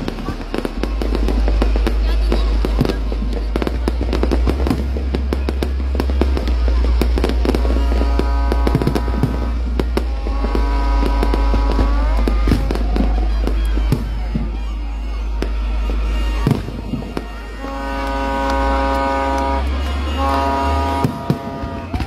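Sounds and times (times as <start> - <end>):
deep steady rumble: 0.0 - 22.0
fireworks bursting and crackling: 0.0 - 22.0.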